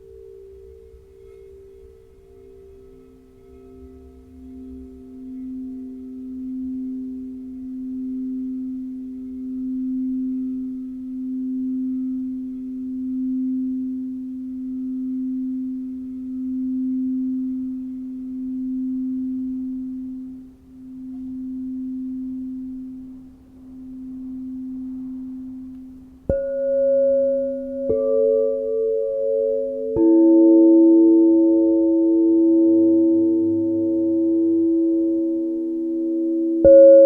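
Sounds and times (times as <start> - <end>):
singing bowl low tone: 0.0 - 37.0.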